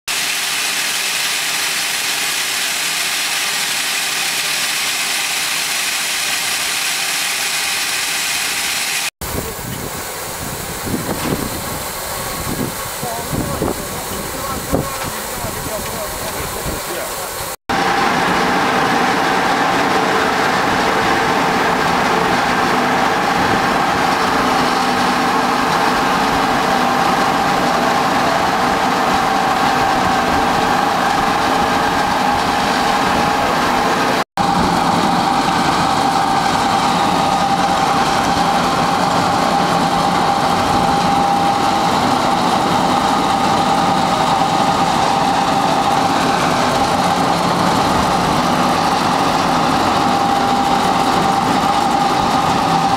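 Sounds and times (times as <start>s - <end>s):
constant machine whine: 0.1s - 52.9s.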